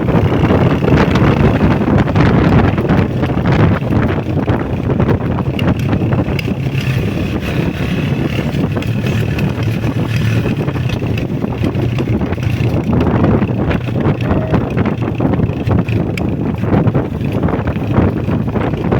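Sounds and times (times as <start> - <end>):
motorcycle engine running: 0.0 - 18.9
wind on microphone: 0.0 - 18.9.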